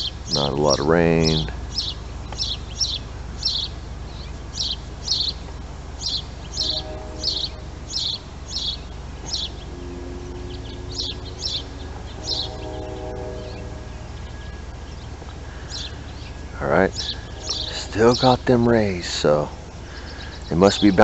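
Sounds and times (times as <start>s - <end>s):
small bird chirping: 0.0s - 18.5s, 19.1s - 21.0s
low background rumble: 0.0s - 21.0s.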